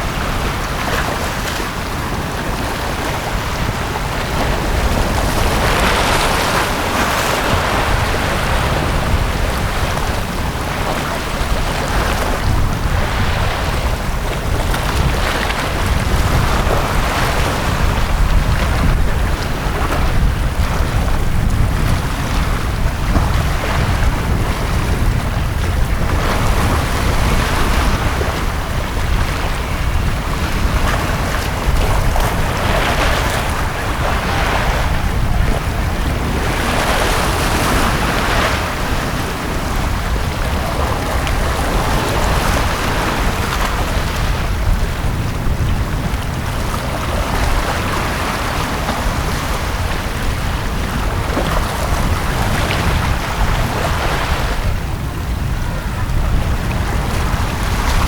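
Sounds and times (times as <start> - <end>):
sea waves washing onto beach: 0.0 - 58.0.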